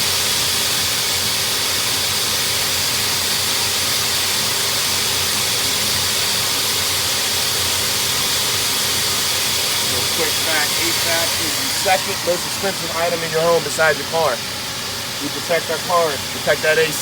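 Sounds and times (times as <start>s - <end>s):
hose spraying water on metal unit: 0.0s - 17.0s.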